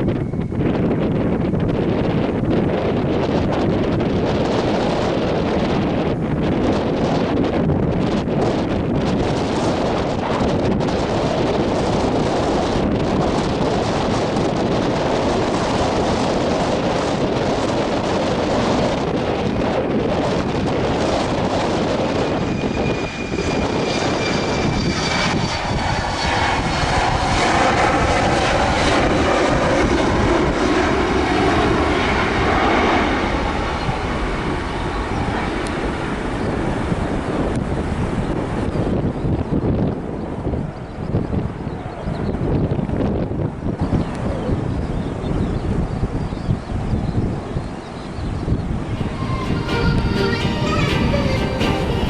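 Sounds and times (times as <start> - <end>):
airliner engines passing: 0.0 - 40.8, 48.3 - 52.0
wind buffeting microphone: 0.0 - 52.0.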